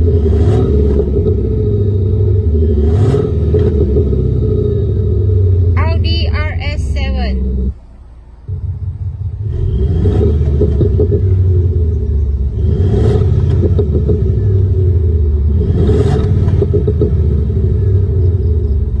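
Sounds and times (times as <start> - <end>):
synthesized engine rumble with rev blips: 0.0 - 19.0.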